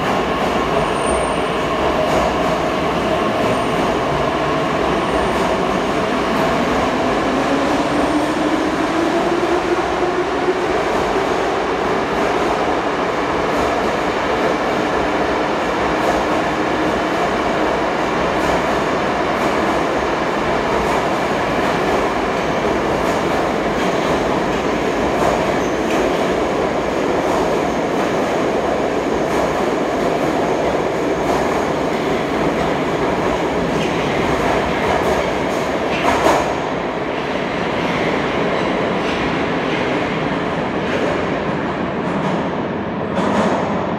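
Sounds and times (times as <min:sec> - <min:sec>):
rising train whine: 0:00.0 - 0:43.9
train wheels rumbling on rail: 0:00.0 - 0:43.9.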